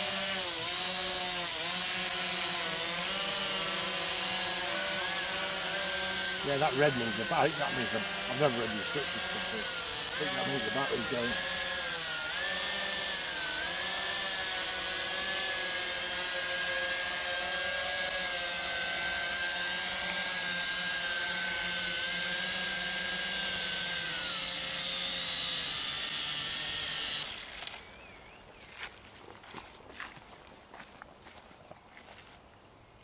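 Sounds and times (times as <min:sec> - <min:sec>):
drone propellers whining: 0:00.0 - 0:28.4.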